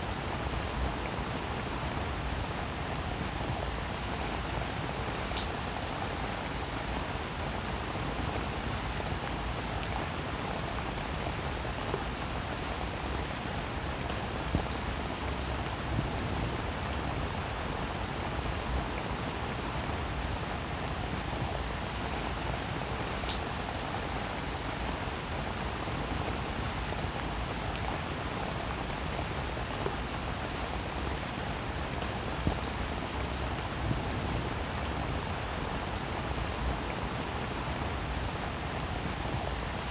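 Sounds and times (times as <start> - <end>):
steady hiss with faint crackles: 0.0 - 39.9.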